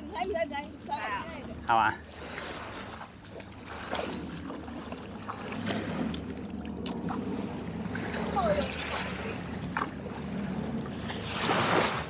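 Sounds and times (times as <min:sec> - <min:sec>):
water: 0:00.0 - 0:12.0
wind: 0:00.0 - 0:12.0.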